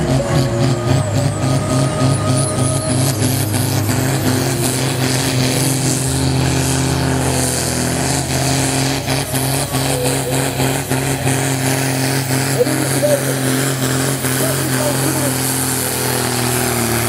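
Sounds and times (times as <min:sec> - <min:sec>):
tractor diesel engine at full load: 0:00.0 - 0:17.0.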